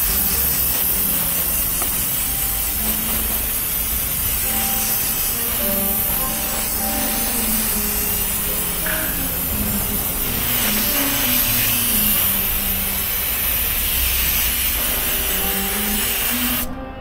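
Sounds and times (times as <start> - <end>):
aerosol spray hissing: 0.0 - 16.8.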